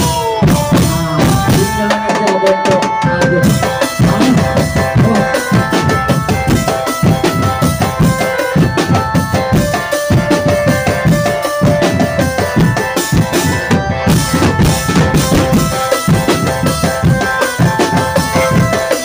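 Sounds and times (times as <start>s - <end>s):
bass and snare drum strokes: 0.0s - 19.0s
melody of held notes: 0.0s - 19.0s.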